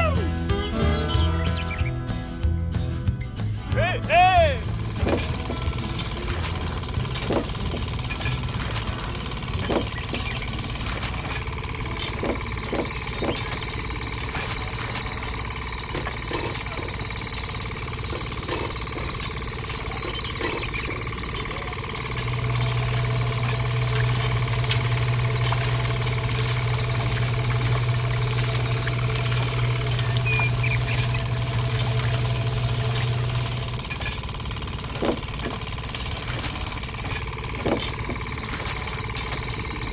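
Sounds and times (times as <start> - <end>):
small motor running: 4.6 - 39.9.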